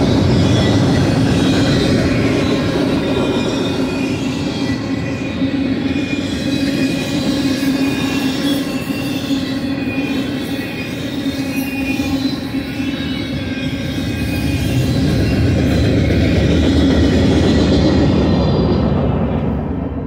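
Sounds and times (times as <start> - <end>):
high wheel squeals: 0.0 - 19.2
steel wheels rumbling on rail: 0.0 - 20.0.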